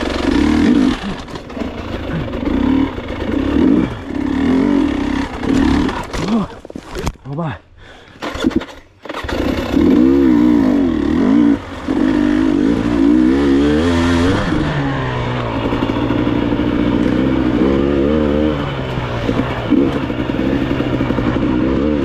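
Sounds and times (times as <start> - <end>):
motorcycle engine revving: 0.0 - 6.6, 8.2 - 22.0.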